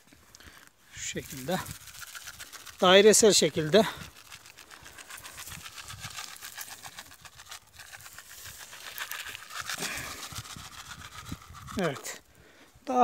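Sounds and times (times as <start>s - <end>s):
granules pattering on soil: 1.0s - 12.2s.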